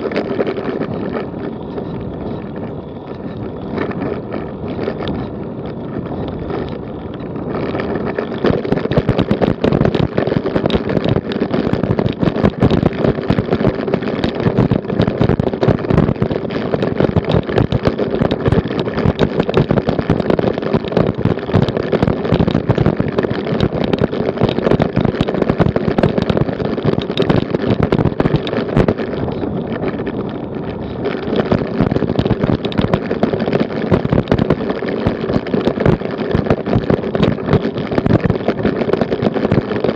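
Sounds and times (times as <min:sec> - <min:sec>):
bicycle rattling over cobblestones: 0:00.0 - 0:39.9.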